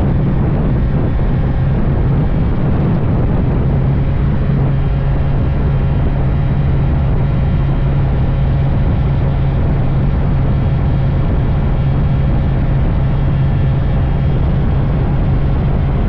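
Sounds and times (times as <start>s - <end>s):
two-stroke motorcycle engine droning: 0.0s - 16.0s.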